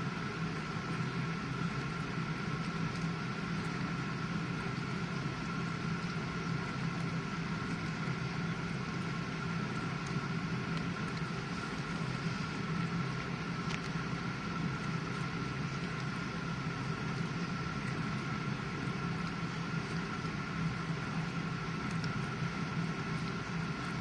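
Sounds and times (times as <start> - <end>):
dishwasher motor hum: 0.0 - 24.0
thin constant whine: 0.0 - 24.0.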